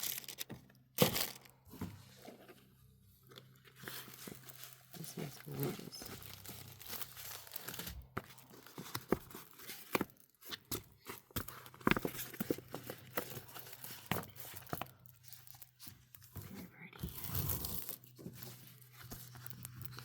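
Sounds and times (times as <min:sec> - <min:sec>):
packaging crinkling and rustling: 0:00.0 - 0:02.6, 0:03.2 - 0:20.0.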